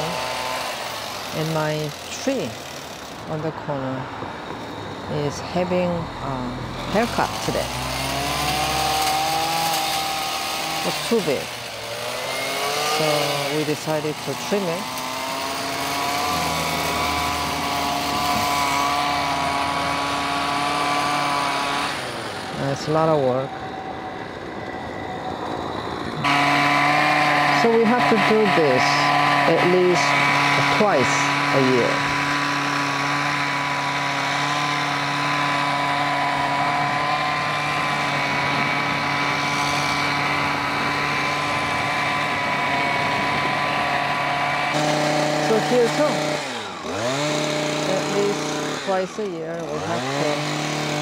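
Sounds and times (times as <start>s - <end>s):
pole trimmer motor whine: 0.0s - 51.0s
two-stroke engine buzzing: 0.0s - 51.0s.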